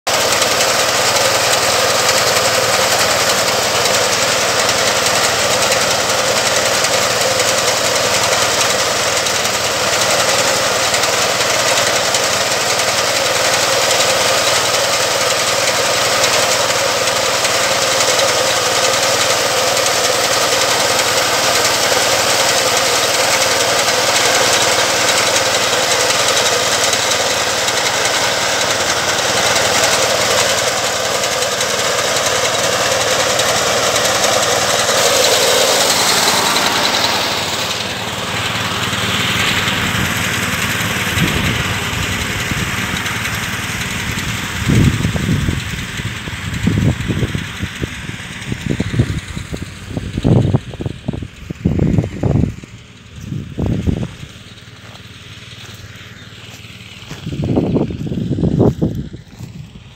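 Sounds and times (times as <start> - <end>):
reaper engine running: 0.0 - 59.9.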